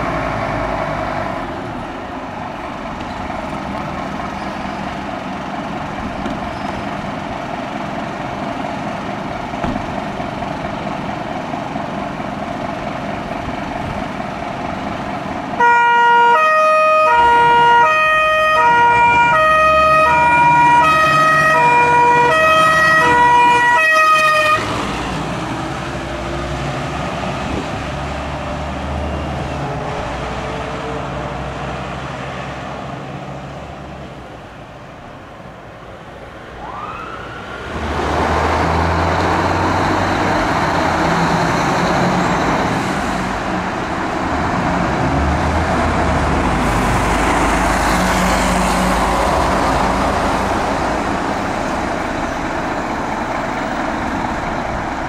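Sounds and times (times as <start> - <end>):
diesel engines starting up: 0.0 - 55.0
fire engine driving past: 0.0 - 55.0.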